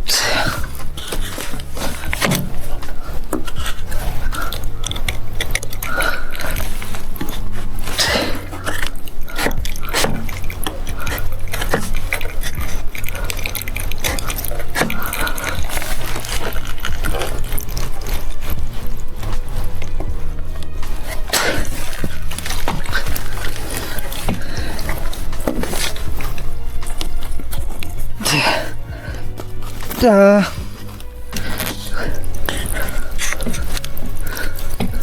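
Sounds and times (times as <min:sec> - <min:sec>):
plastic pipe clicks and scrapes: 0:00.0 - 0:30.0, 0:30.6 - 0:35.0.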